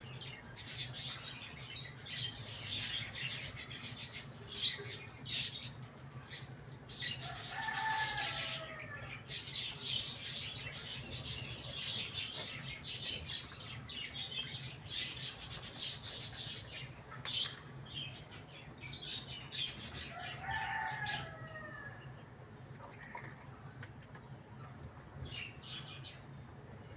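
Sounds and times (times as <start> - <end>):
small birds chirping: 0.0 - 22.2.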